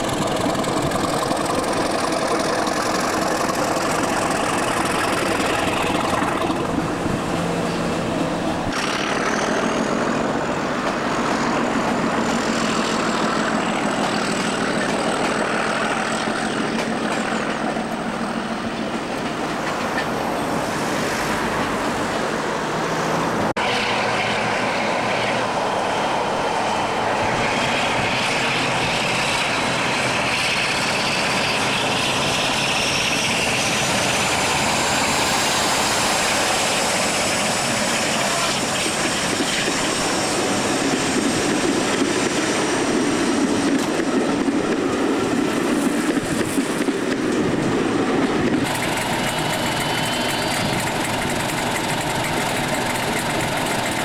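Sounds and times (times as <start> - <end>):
diesel locomotive working under power: 0.0 - 54.0.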